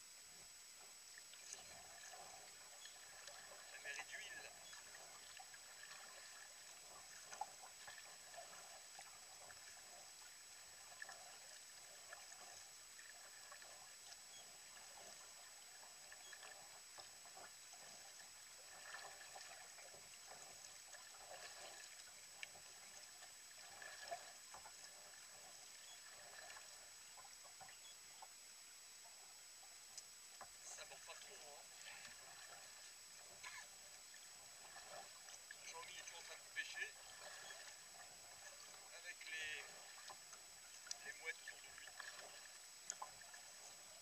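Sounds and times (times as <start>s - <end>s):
water trickling off paddle: 1.1s - 44.0s
paddle splashing in water: 1.4s - 28.3s, 30.4s - 44.0s.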